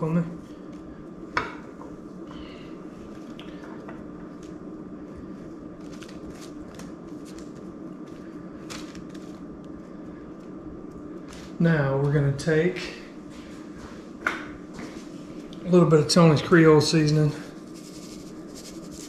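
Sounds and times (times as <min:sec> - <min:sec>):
room hum: 0:00.0 - 0:19.0.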